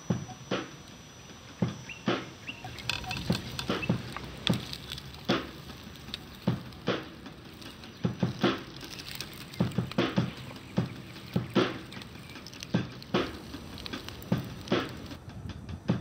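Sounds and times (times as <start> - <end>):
dry leaves and twigs crunching: 1.6 - 15.2.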